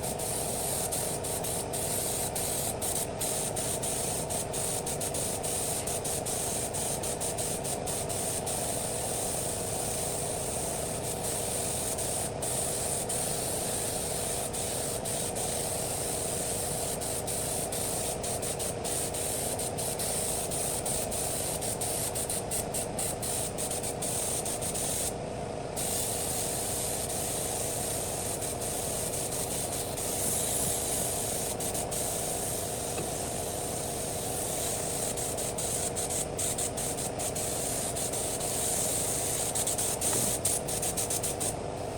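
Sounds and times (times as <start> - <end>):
mechanical hiss: 0.0 - 41.9.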